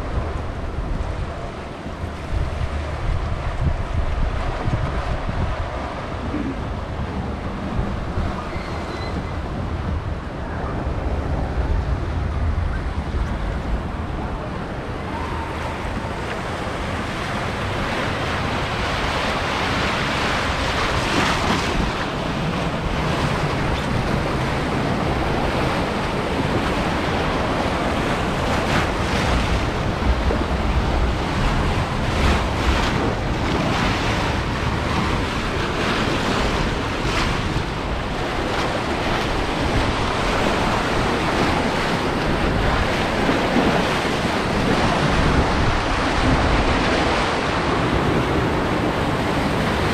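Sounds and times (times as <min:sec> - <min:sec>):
water rushing and churning: 0:00.0 - 0:49.9
wind on the microphone: 0:00.0 - 0:49.9.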